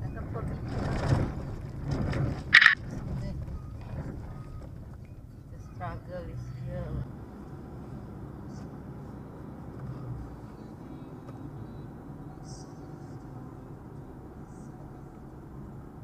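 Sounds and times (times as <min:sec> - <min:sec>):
car tyres and engine rumble: 0:00.0 - 0:16.0.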